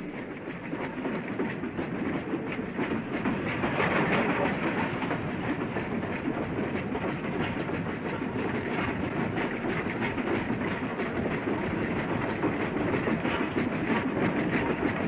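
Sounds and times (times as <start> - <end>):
steam train running: 0.0 - 15.0
wheels clacking over rail joints: 0.0 - 15.0.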